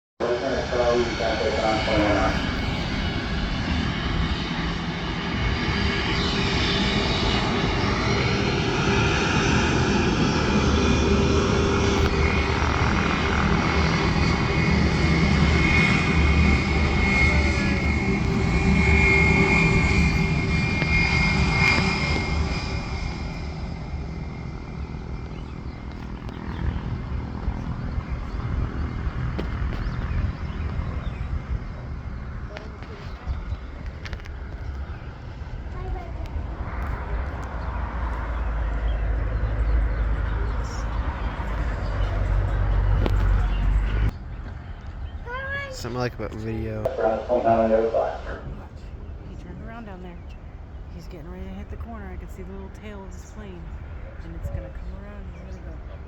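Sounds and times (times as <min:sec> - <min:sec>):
airplane engines passing: 0:00.2 - 0:56.0.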